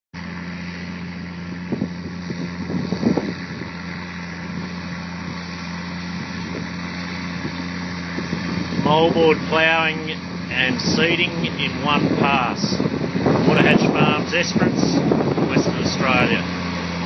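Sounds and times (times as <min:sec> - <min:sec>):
tractor diesel engine running: 0:00.2 - 0:17.0.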